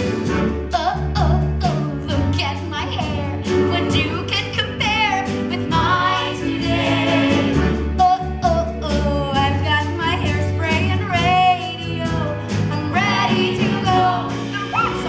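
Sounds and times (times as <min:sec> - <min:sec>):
live band with bass and drums: 0:00.0 - 0:15.0
woman singing: 0:00.7 - 0:06.9, 0:08.0 - 0:15.0.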